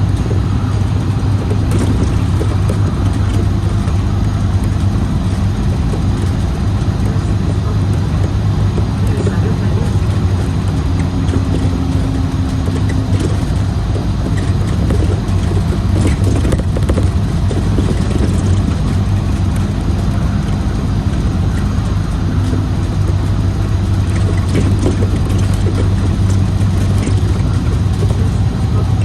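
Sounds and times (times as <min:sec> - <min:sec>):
bus engine drone: 0:00.0 - 0:29.0
road noise: 0:00.0 - 0:29.0.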